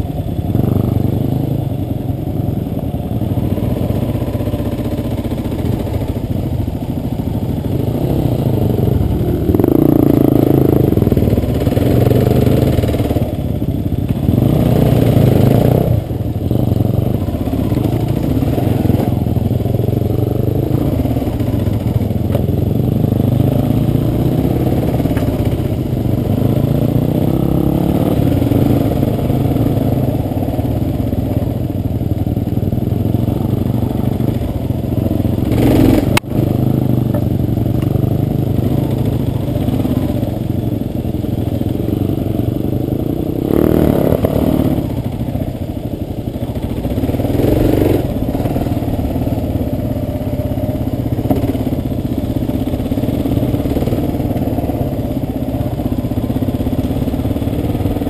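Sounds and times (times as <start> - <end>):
motorcycle engine surging: 0.0 - 58.0.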